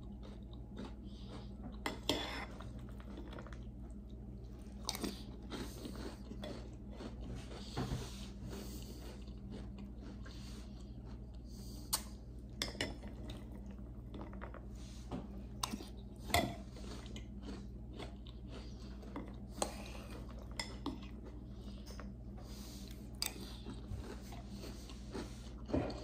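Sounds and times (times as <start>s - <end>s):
quiet chewing: 0.0s - 26.0s.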